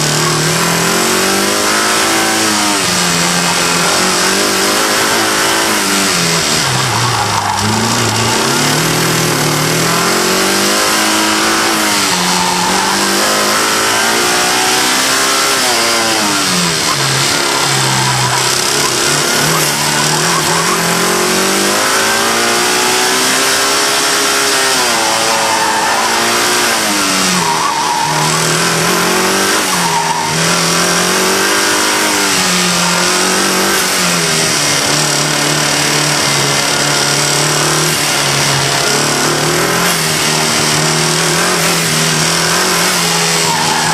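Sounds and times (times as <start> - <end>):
car engine revving with knock: 0.0 - 43.9.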